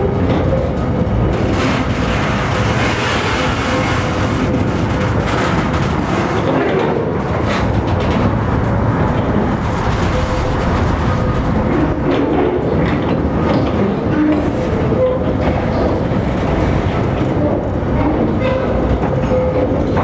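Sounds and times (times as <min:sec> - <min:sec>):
rumble of wheels and engine: 0:00.0 - 0:20.0.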